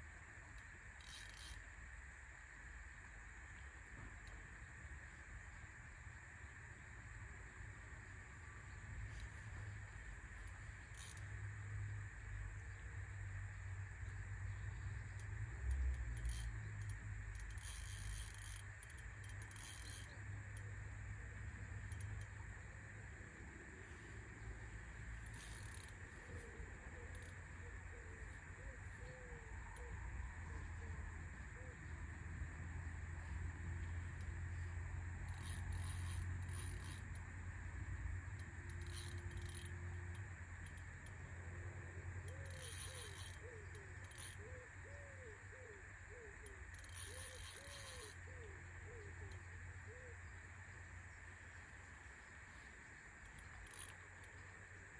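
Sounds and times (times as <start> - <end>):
outdoor background hiss: 0.0 - 54.9
fishing reel clicks: 0.2 - 12.7, 13.4 - 31.8, 32.7 - 54.9.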